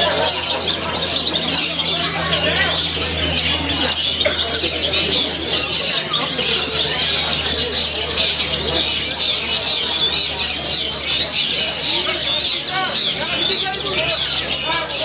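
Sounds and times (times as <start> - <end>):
caged songbirds chirping and trilling: 0.0 - 15.0.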